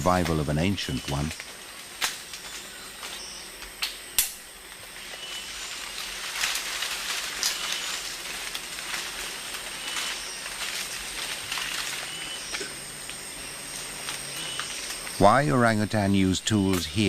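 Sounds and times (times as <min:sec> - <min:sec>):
crackles and rustles: 0:00.0 - 0:17.0
insect whine: 0:00.0 - 0:17.0.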